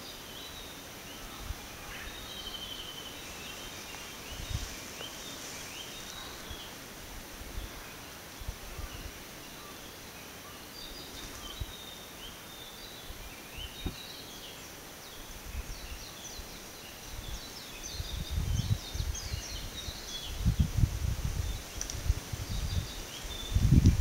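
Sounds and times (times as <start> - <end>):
faint hiss: 0.0 - 24.0
small birds chirping: 0.0 - 24.0.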